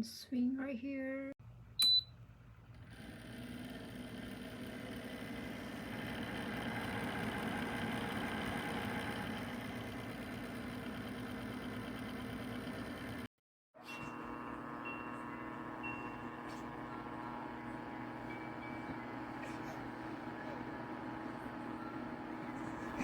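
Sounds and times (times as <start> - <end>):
heater fan whirring: 1.6 - 23.0.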